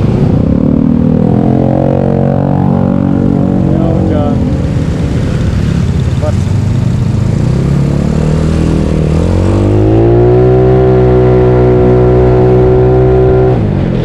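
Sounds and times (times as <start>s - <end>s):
scooter engine accelerating: 0.0s - 14.0s.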